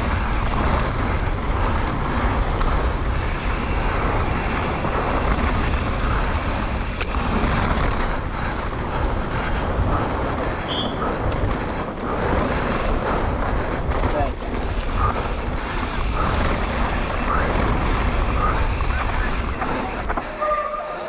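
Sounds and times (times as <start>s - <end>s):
wind rushing over microphone: 0.0s - 20.6s
bike tyres rumbling on dirt: 0.0s - 21.0s.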